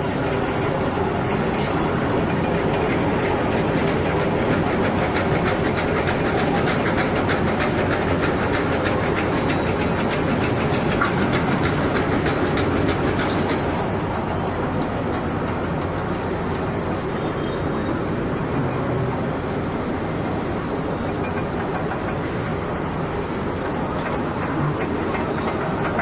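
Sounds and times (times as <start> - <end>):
rapid clatter of clicks: 0.1 - 16.2, 21.0 - 26.0.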